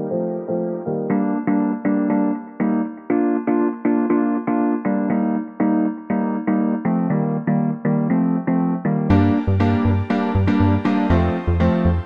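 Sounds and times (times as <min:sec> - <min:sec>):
keyboard music: 0:00.0 - 0:12.0.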